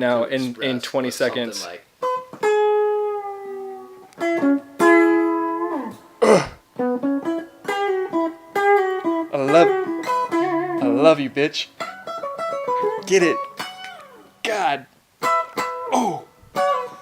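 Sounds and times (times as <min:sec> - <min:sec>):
guitar plucked notes: 0:01.2 - 0:17.0.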